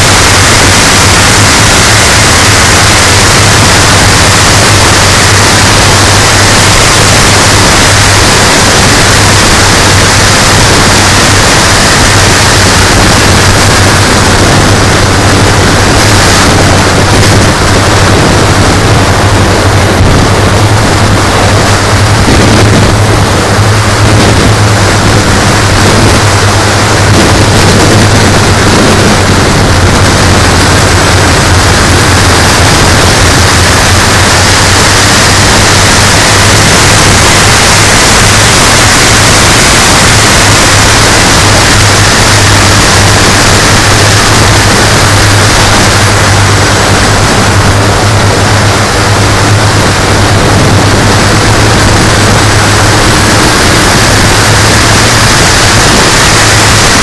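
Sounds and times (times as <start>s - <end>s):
harsh distorted hiss: 0.0s - 57.0s
model aircraft engines running: 0.0s - 57.0s
steady low hum: 0.0s - 57.0s.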